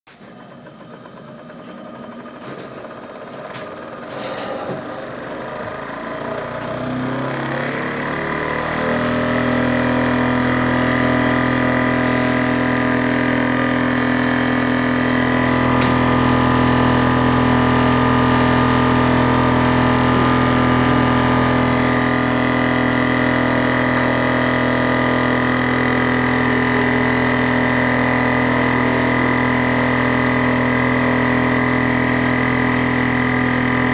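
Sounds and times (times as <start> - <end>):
vortex mixer motor humming: 0.1 - 33.9.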